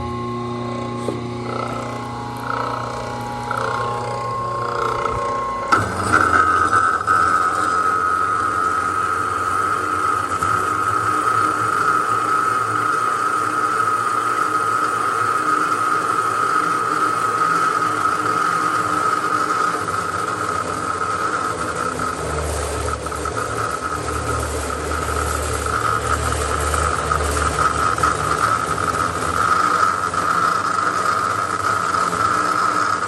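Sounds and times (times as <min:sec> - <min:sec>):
motor running hum: 0:00.0 - 0:33.0
saw blade cutting pipe whine: 0:00.0 - 0:33.0.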